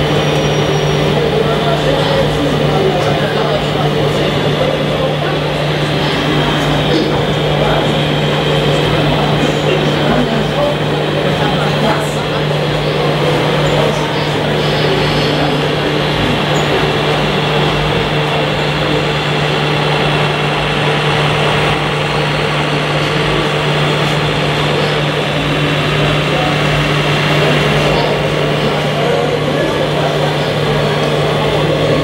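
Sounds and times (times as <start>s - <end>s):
faint background chatter: 0.0s - 32.0s
model truck motor drone: 0.0s - 32.0s.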